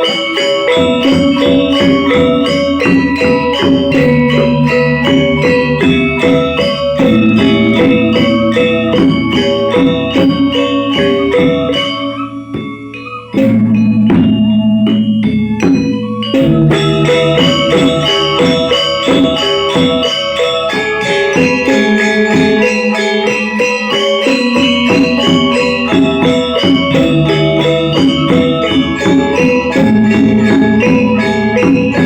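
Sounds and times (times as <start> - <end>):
gamelan ensemble playing: 0.0 - 32.0.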